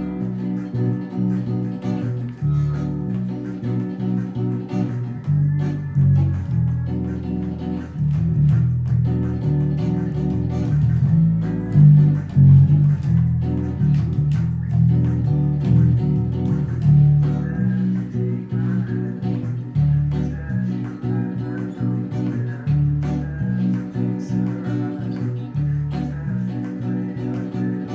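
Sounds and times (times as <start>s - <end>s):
guitar plucked and strummed: 0.0s - 27.9s
low bass notes: 0.0s - 27.9s.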